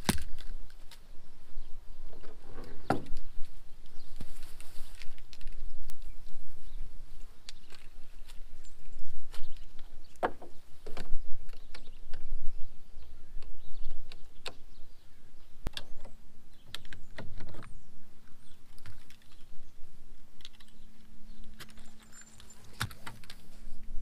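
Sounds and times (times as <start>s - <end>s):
faint steady hum: 0.0s - 24.0s
wind rumble on microphone: 0.0s - 24.0s.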